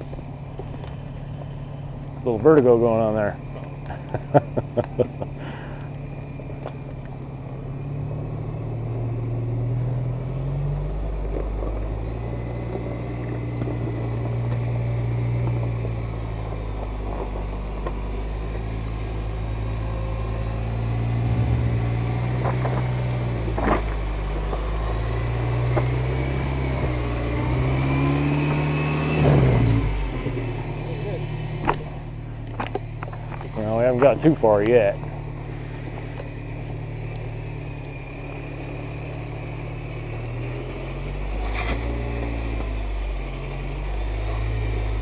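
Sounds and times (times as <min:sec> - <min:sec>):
truck engine revving: 0:06.5 - 0:45.0.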